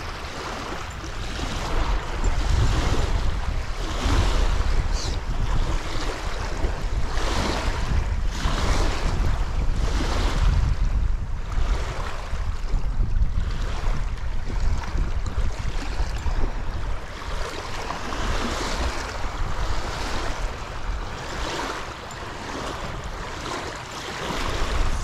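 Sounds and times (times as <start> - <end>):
lake waves: 0.0 - 25.0
rushing wind: 0.0 - 25.0
wind buffeting microphone: 0.0 - 25.0.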